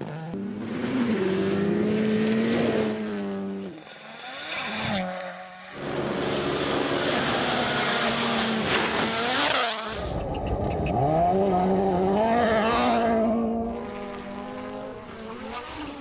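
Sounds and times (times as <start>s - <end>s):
rally car engines at full throttle: 0.0s - 16.0s.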